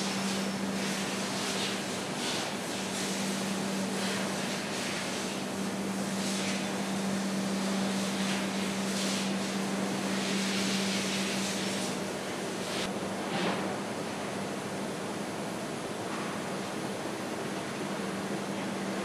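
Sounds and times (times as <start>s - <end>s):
machinery hum with low tone: 0.0s - 19.0s.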